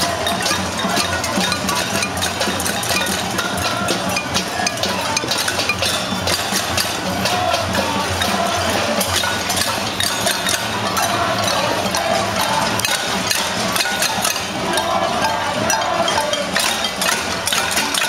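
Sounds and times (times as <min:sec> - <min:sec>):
crowd banging pots and pans: 0:00.0 - 0:18.0.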